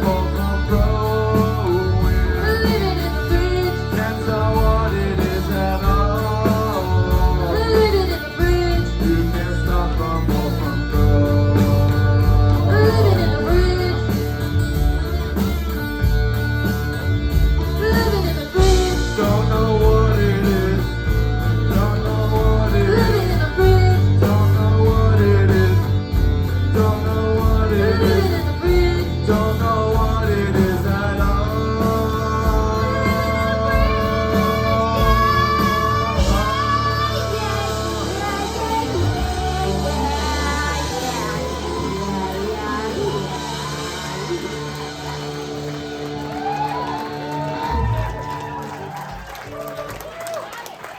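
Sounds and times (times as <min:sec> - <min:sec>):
person singing: 0:00.0 - 0:48.1
bass and drum beat: 0:00.0 - 0:50.2
electric guitar lines: 0:00.0 - 0:50.4.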